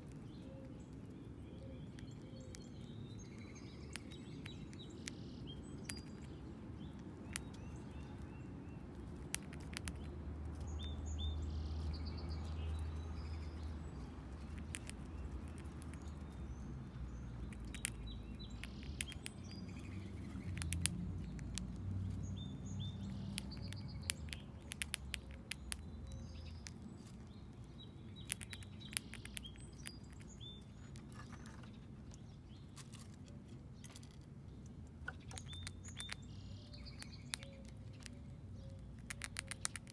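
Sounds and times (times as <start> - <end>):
small birds chirping: 0.0 - 39.9
squirrel chewing corn kernels: 0.0 - 39.9.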